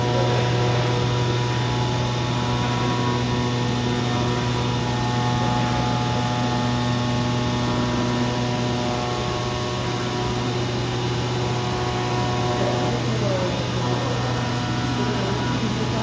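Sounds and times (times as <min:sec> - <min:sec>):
cutting machine humming: 0:00.0 - 0:16.0
faint machine whining tones: 0:00.0 - 0:16.0.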